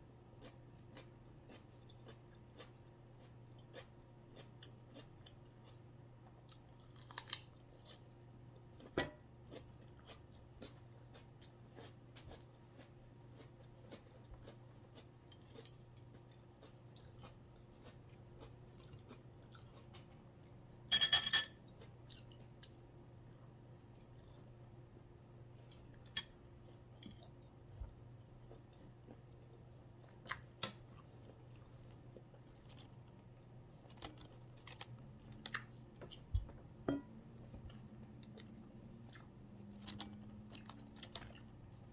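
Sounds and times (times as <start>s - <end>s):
low steady hum: 0.0s - 41.9s
chewing with crunches: 0.1s - 20.7s, 21.7s - 25.0s, 25.6s - 36.6s, 37.4s - 41.9s.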